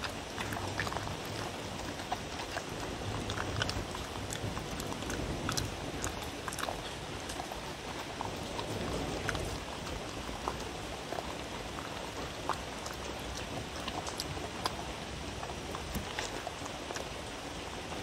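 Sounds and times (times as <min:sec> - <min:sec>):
dog chewing and licking: 0:00.0 - 0:18.0.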